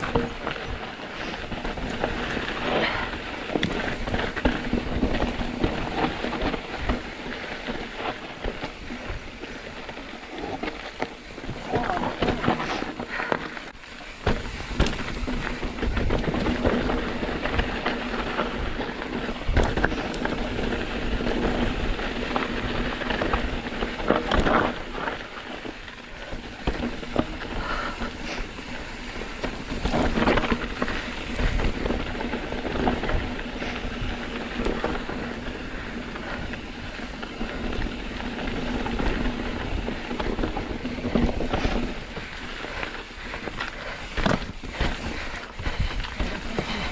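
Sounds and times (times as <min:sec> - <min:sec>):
bike knocking and rattling: 0:00.0 - 0:46.9
tyres on rock and gravel: 0:00.0 - 0:46.9.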